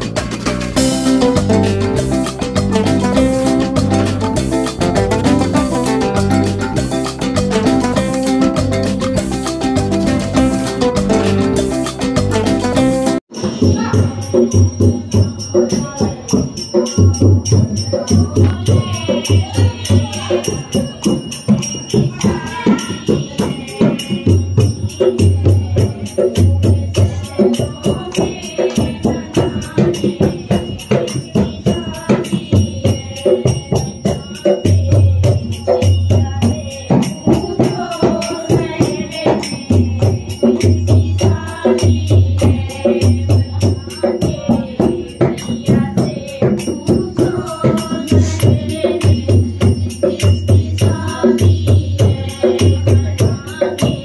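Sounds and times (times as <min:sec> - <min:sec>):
fast percussion beat: 0:00.0 - 0:54.0
voices singing together: 0:00.0 - 0:54.0.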